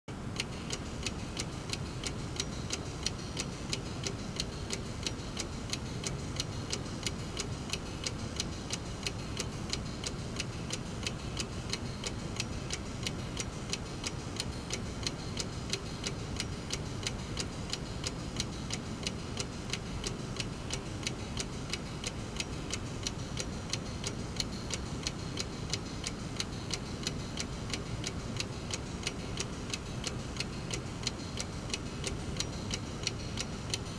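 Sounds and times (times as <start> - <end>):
mechanical clock ticking rapidly: 0.3 - 33.9.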